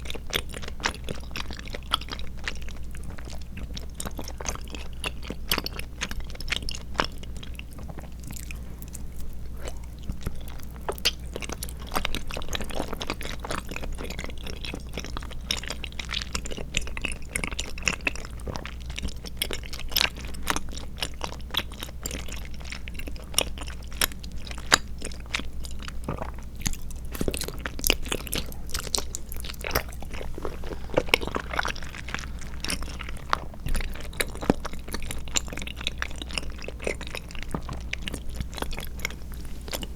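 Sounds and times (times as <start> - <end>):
wet chewing clicks: 0.0 - 39.9.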